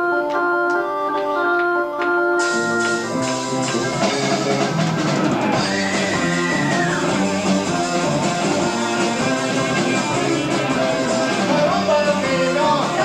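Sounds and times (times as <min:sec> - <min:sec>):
bass guitar: 0:00.0 - 0:13.0
electric guitar: 0:00.0 - 0:13.0
organ chords: 0:00.0 - 0:13.0
drums: 0:02.4 - 0:13.0.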